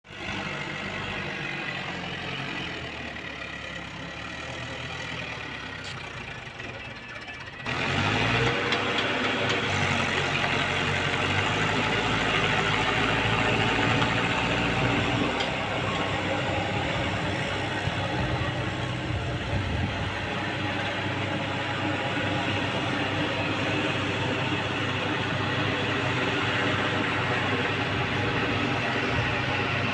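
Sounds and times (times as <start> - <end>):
tractor diesel engine running: 0.1 - 29.9.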